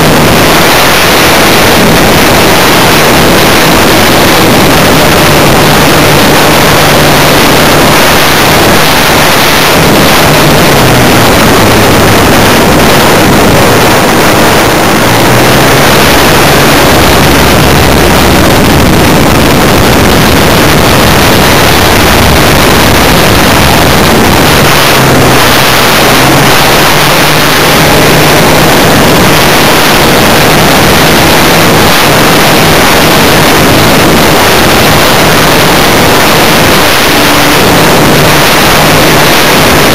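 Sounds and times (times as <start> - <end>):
model plane engine running: 0.0 - 39.9
wind rush on microphone: 0.0 - 39.9.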